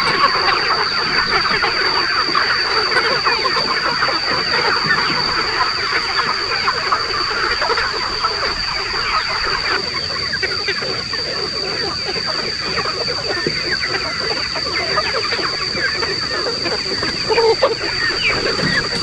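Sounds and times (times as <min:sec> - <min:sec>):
chickens clucking and cheeping: 0:00.0 - 0:19.0.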